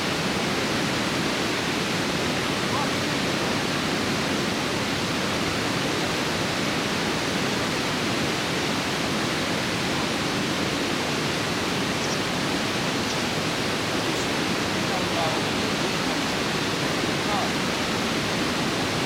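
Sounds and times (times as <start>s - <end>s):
river water rushing over weir: 0.0s - 19.0s.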